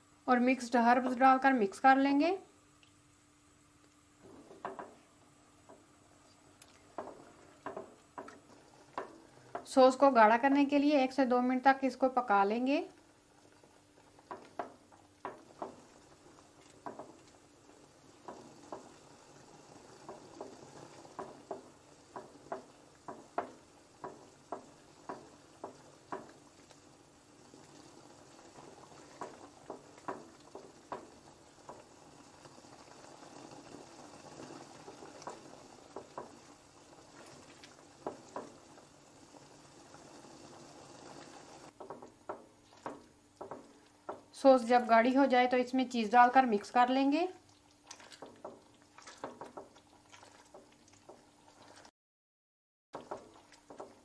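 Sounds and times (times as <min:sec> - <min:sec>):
faint steady hiss: 0:00.0 - 0:51.9
sauce simmering with bubble pops: 0:02.7 - 0:11.1, 0:11.9 - 0:45.3, 0:46.2 - 0:51.9, 0:52.9 - 0:54.0.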